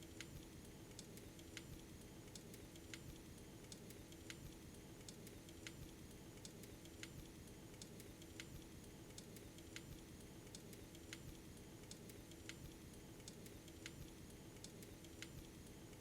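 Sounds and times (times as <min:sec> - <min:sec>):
faint sharp clicks: 0:00.0 - 0:01.7, 0:02.3 - 0:05.8, 0:07.8 - 0:16.0.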